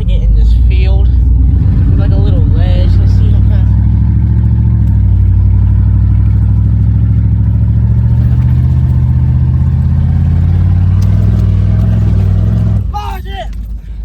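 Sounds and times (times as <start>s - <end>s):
truck engine through open headers: 0.0s - 14.0s.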